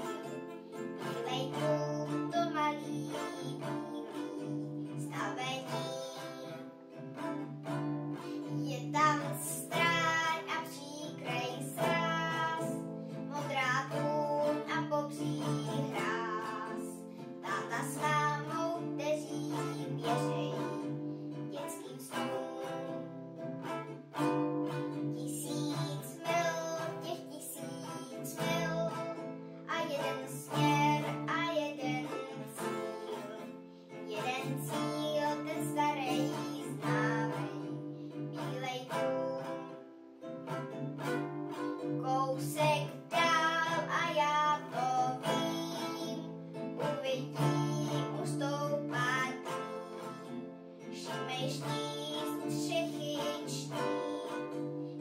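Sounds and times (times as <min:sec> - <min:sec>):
classical guitar strumming: 0:00.0 - 0:55.0
girl singing: 0:00.0 - 0:55.0.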